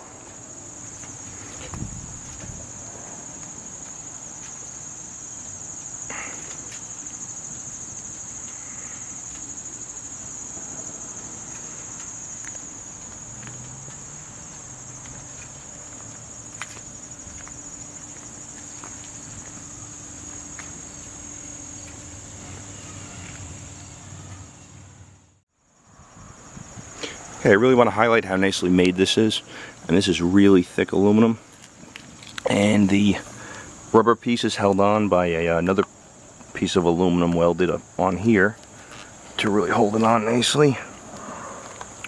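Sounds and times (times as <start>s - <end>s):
insect chirring: 0.2s - 42.0s.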